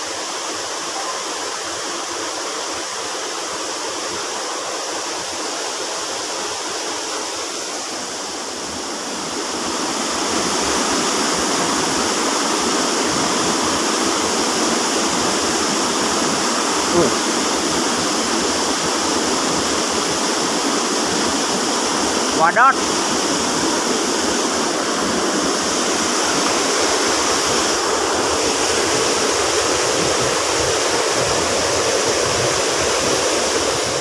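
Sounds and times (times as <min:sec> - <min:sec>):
river water rushing and splashing: 0:00.0 - 0:34.0.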